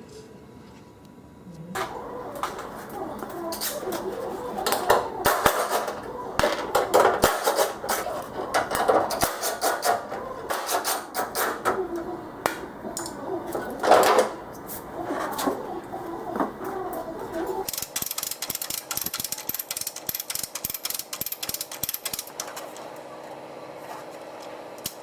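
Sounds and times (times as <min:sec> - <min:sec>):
tools and metal parts clattering: 0:01.8 - 0:12.1, 0:13.0 - 0:23.0.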